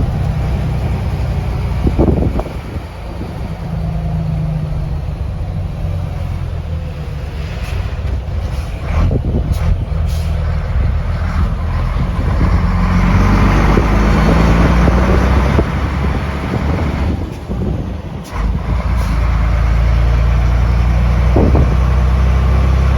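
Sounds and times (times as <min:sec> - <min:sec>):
truck diesel engine under load: 0:00.0 - 0:22.9.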